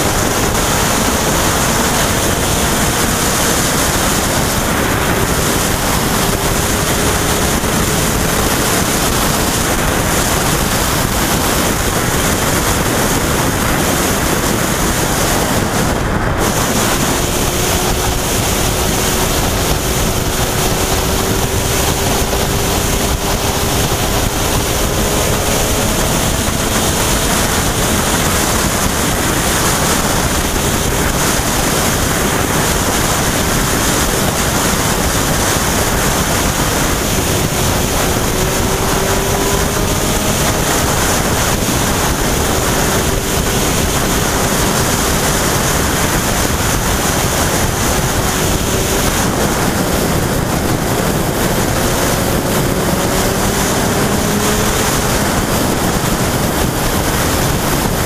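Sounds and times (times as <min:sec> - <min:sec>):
faint motorcycle engine: 0:00.0 - 0:58.0
wind rushing over microphone: 0:00.0 - 0:58.0.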